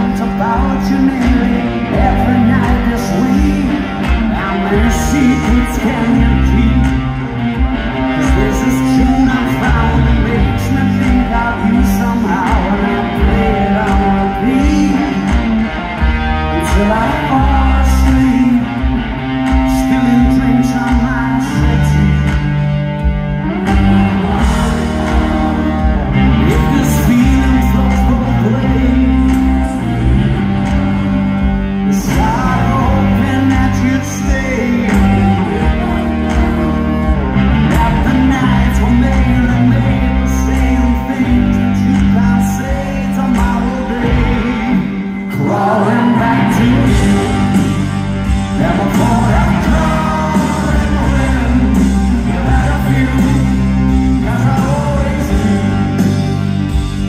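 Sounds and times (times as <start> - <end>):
bass guitar: 0.0 - 57.0
drums: 0.0 - 57.0
electric guitars: 0.0 - 57.0
person singing: 0.0 - 57.0.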